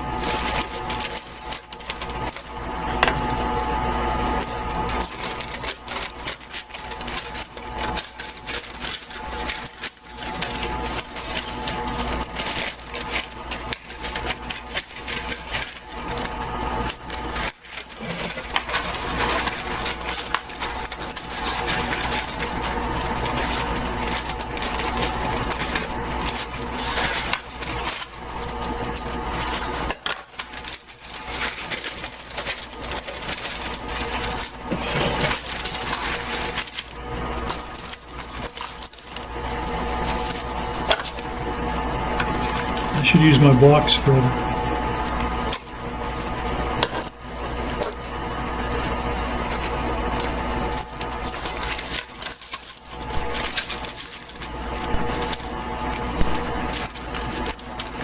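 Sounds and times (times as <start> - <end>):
paper rustling and crinkling: 0.2 - 41.4, 42.1 - 44.2, 45.5 - 58.0.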